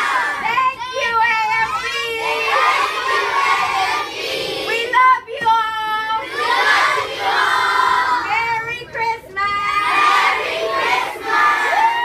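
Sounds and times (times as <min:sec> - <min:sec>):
children shouting and cheering: 0:00.0 - 0:05.3, 0:06.1 - 0:12.0.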